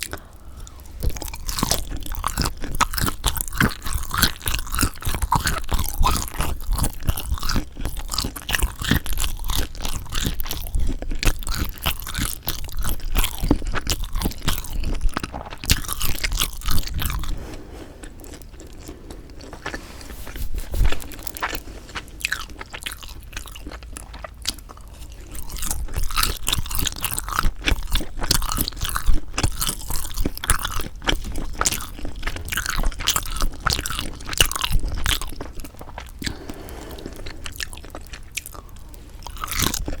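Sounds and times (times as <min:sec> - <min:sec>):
chewing and biting clicks: 0:00.0 - 0:40.0.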